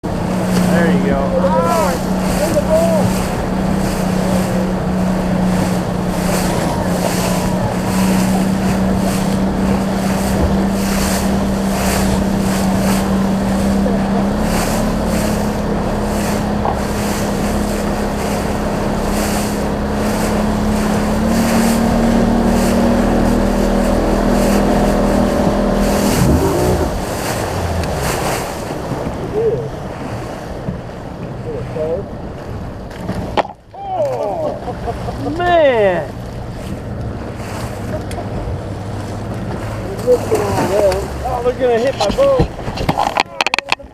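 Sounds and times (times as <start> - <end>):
rushing water: 0.0 - 43.9
small boat motor running: 0.0 - 43.9
wind: 0.0 - 43.9.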